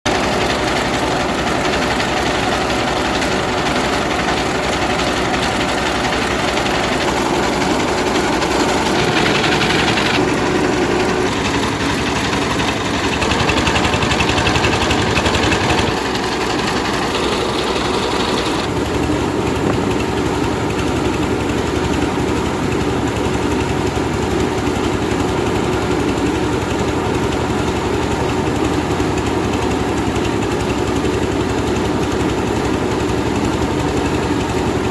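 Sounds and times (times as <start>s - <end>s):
rice milling machine drone: 0.1s - 34.9s.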